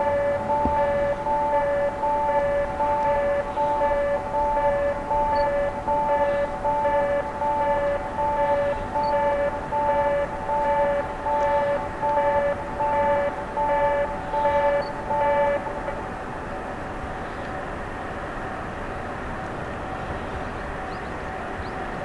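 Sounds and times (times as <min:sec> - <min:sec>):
steady background rumble: 0:00.0 - 0:22.0.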